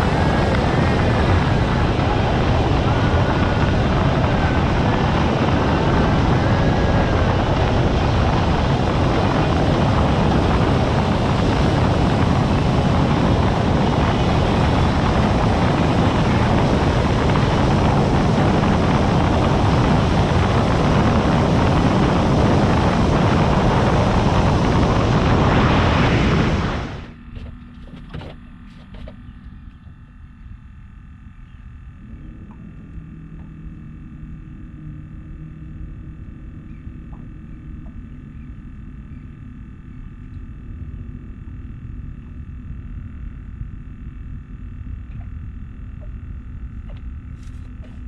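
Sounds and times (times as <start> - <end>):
motorboat running at speed: 0.0 - 48.0.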